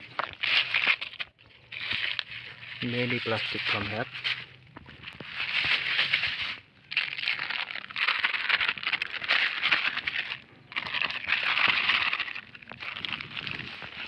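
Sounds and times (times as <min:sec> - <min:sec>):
plastic litter crinkling: 0:00.0 - 0:14.0.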